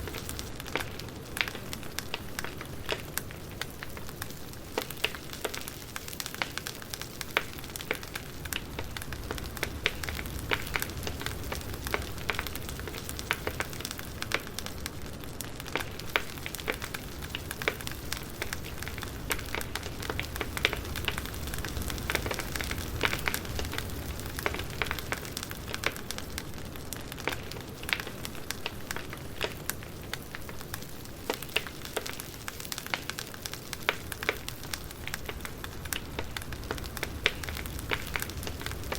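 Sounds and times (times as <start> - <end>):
firewood crackling: 0.0 - 38.9.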